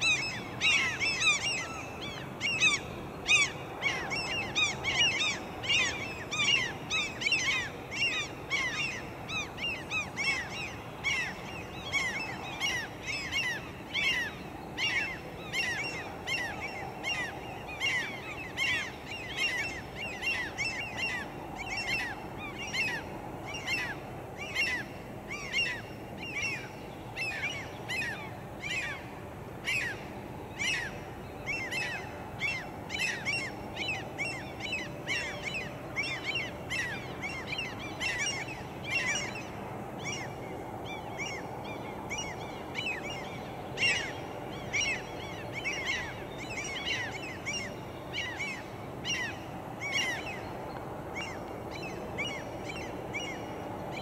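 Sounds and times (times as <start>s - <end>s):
bird calling: 0.0s - 54.0s.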